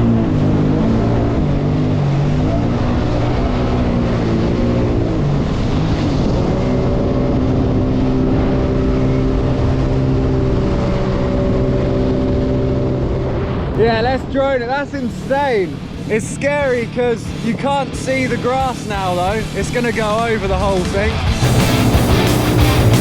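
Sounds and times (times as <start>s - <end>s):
jet ski engine running: 0.0s - 23.0s
water rushing: 0.0s - 23.0s.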